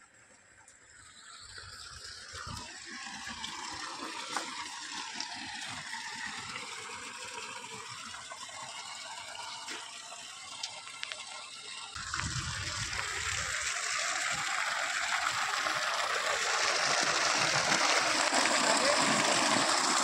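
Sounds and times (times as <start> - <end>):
water pouring from pipe: 0.7 - 20.0.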